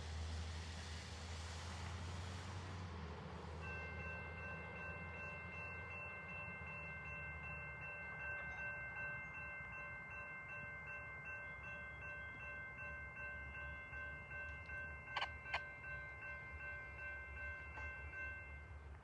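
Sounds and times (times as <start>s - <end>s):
crossing bell ringing: 3.6s - 19.0s.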